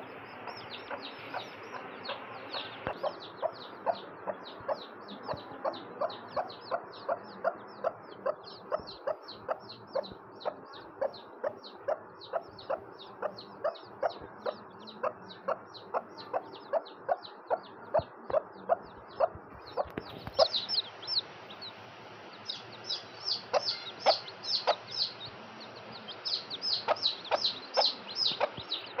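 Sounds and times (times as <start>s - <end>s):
chicks peeping: 0.0s - 29.0s
hen clucking: 0.0s - 29.0s.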